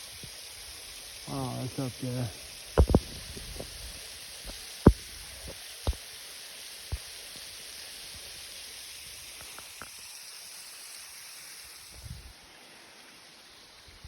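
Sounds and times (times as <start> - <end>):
waterfall hissing: 0.0 - 14.0.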